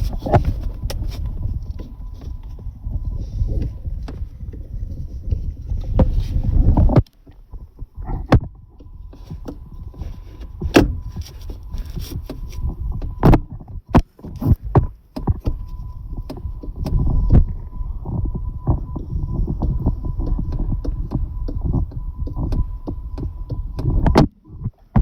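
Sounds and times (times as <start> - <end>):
faint steady high tone: 0.0 - 6.9, 7.5 - 14.7, 15.3 - 24.8.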